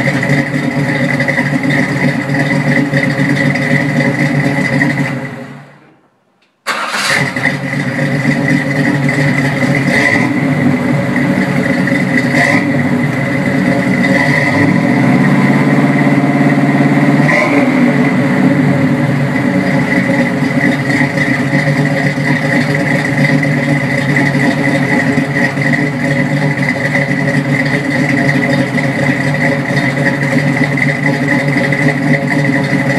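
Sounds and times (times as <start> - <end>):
car engine idling: 0.0 - 6.0, 6.6 - 32.9
engine throttle blips: 0.0 - 32.9.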